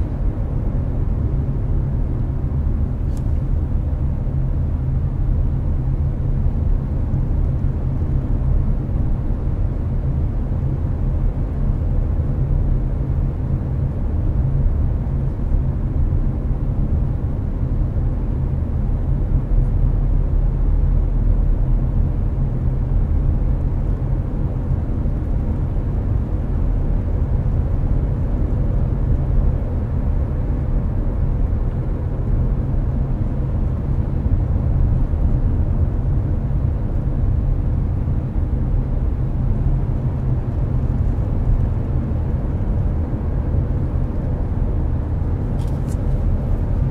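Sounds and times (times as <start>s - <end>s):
air conditioner hum: 0.0s - 46.9s
car road and engine rumble: 0.0s - 46.9s.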